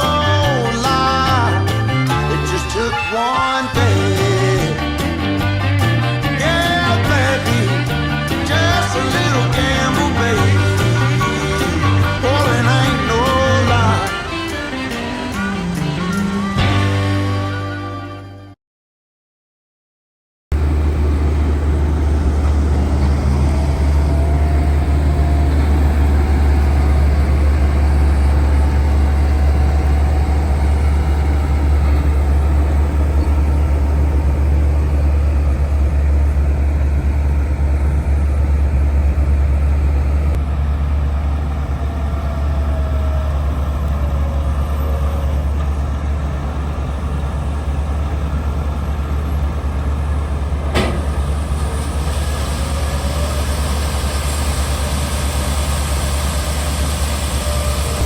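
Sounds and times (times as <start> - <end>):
diesel engine droning: 0.0 - 18.6, 20.5 - 58.0.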